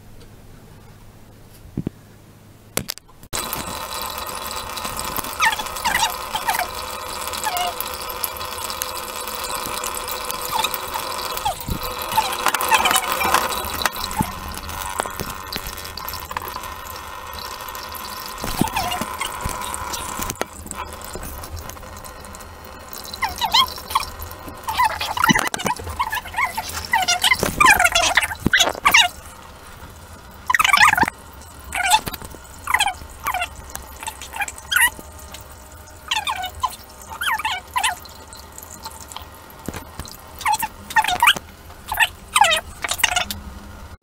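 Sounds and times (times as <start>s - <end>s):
tap water running into sink: 3.4s - 43.4s.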